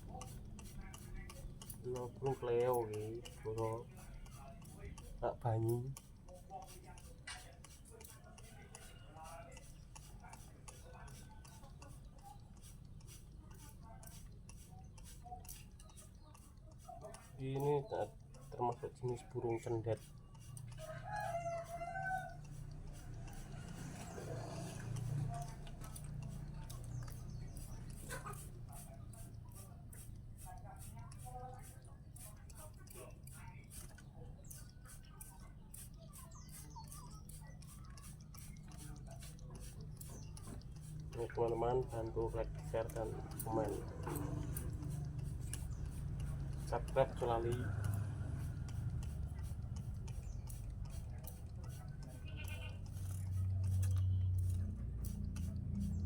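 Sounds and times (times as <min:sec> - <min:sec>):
faint irregular ticking clicks: 0:00.0 - 0:20.9, 0:22.2 - 0:56.0.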